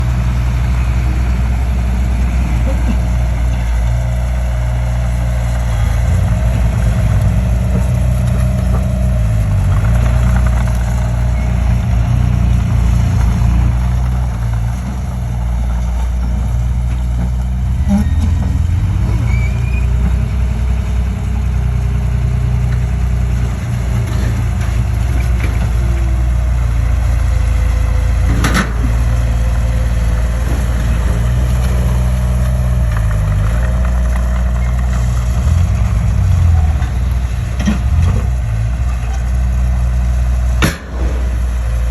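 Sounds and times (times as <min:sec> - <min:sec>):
heavy machinery engine running: 0:00.0 - 0:41.9.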